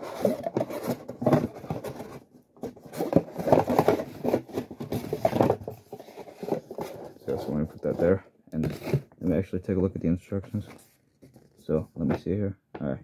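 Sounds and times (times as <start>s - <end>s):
cardboard and paper rustling: 0.0s - 9.4s, 10.4s - 12.2s.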